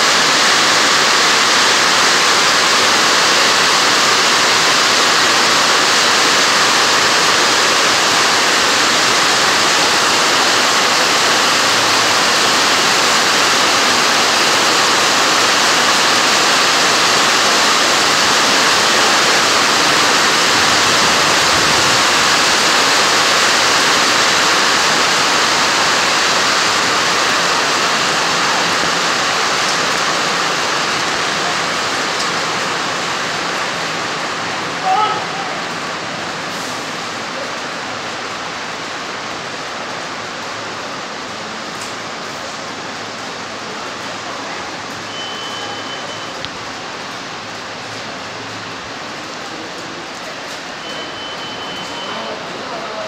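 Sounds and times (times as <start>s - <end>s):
heavy rain on paving: 0.0s - 53.0s.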